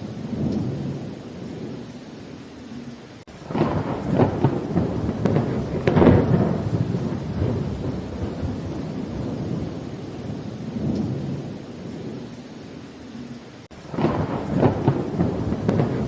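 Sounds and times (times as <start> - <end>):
thunder cracking and rumbling: 0.0 - 1.8, 3.3 - 12.3, 13.7 - 16.0
steady rain: 0.0 - 16.0.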